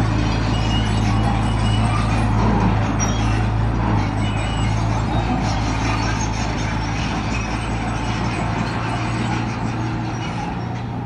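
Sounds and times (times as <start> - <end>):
bulldozer diesel engine droning: 0.0 - 11.0.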